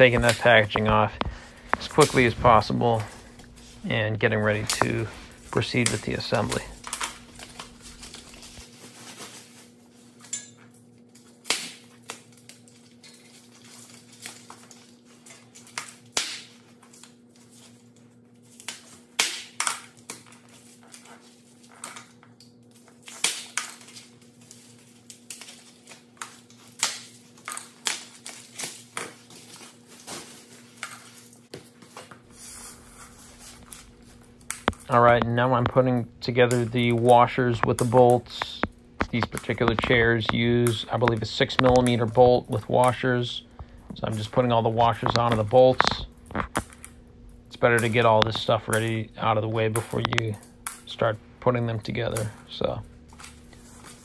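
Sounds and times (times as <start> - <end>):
plastic packaging crinkling: 0.0 - 10.2, 10.8 - 19.0, 20.3 - 51.1
faint steady hum: 0.0 - 54.0.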